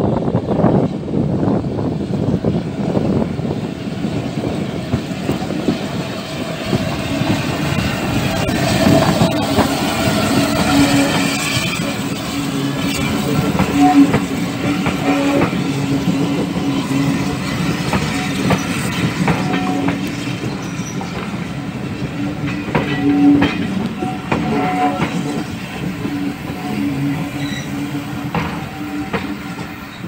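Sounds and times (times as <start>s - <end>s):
train coaches rolling past: 0.0s - 30.0s.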